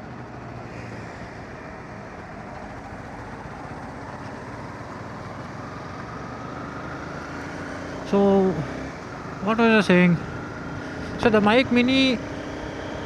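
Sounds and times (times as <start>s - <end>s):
motorcycle road and wind noise: 0.0s - 13.0s.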